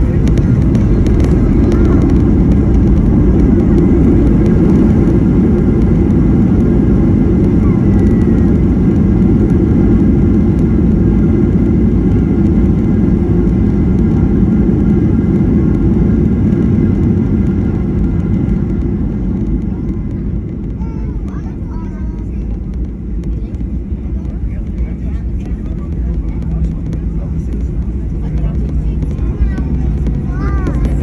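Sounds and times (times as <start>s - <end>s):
airplane cabin rumble on landing: 0.0s - 31.0s.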